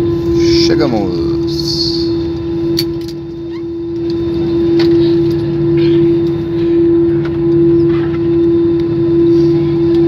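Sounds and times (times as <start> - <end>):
jet engines droning: 0.0 - 10.0
low rumble: 0.0 - 10.0.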